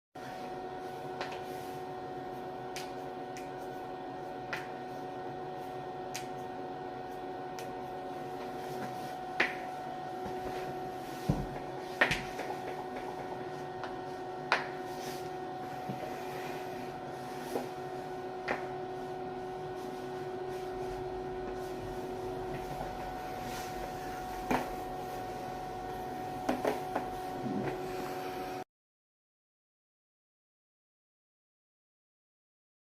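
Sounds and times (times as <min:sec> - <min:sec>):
steady hum: 0:00.2 - 0:28.6.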